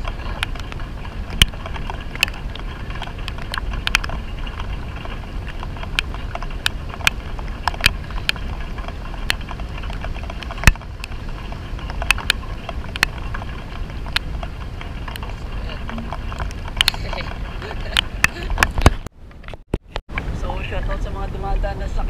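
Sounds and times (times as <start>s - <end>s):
heavy rain on river: 0.0s - 19.1s.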